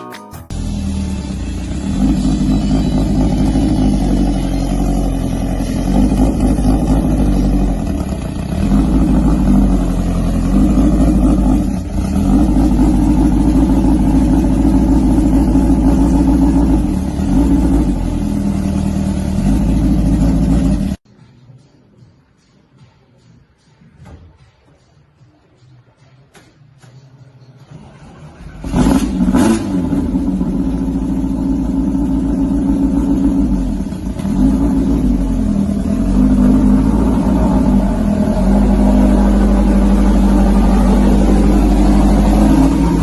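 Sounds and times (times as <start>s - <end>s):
car engine revving: 0.5s - 21.0s, 28.2s - 43.0s.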